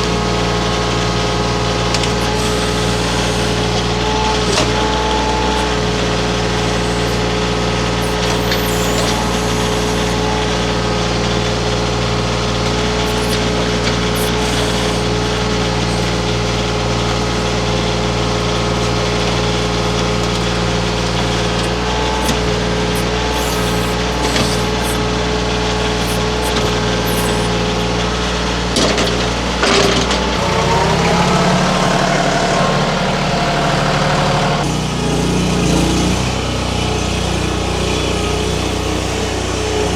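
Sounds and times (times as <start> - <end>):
steady whine: 0.0 - 36.5
skid steer engine running: 0.0 - 39.9.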